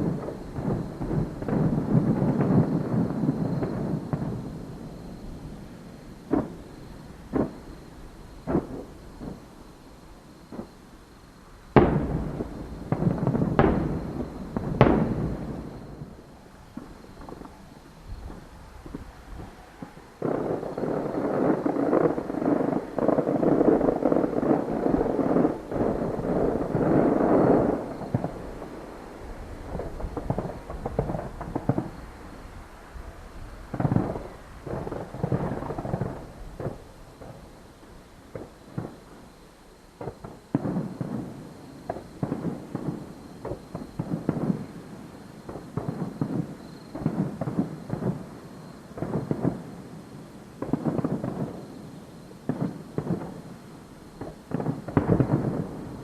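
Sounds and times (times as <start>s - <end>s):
crackling fireworks bursts: 0.0s - 56.0s
fireworks booming: 0.0s - 56.0s.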